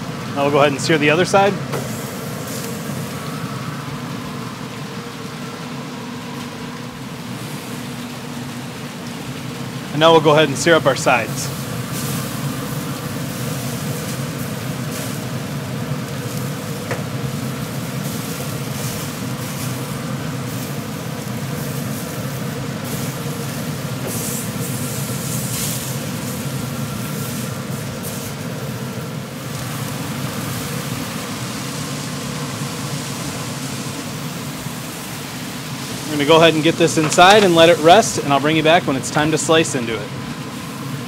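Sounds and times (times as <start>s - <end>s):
grill running rush: 0.0s - 41.0s
steak sizzling on grill: 0.4s - 41.0s.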